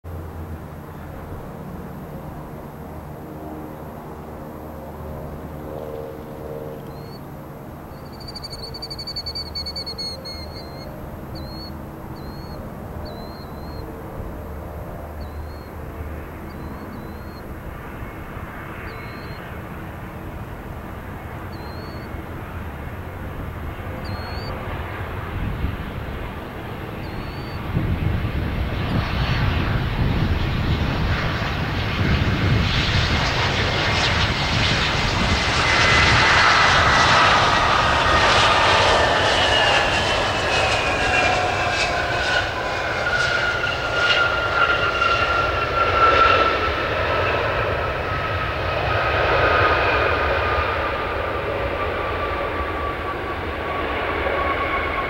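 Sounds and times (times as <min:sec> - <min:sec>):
engine whine gliding down: 0:00.1 - 0:24.7, 0:25.4 - 0:55.0
jet engine roar: 0:00.1 - 0:55.0.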